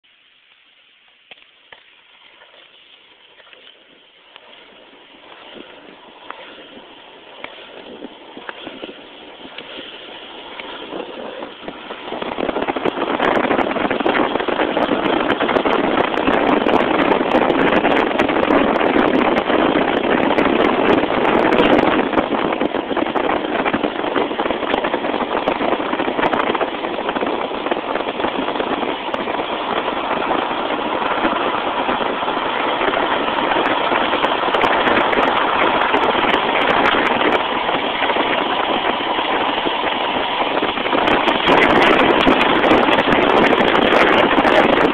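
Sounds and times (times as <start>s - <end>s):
longboard wheels rolling on asphalt: 0.0s - 44.9s
wind buffeting microphone: 1.3s - 44.9s.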